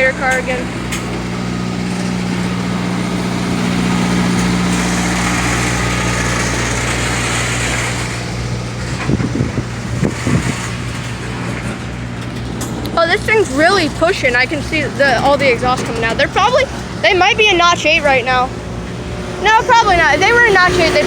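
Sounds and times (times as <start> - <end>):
diesel locomotive engine drone: 0.0 - 21.0
rumble of rolling freight cars: 0.0 - 21.0.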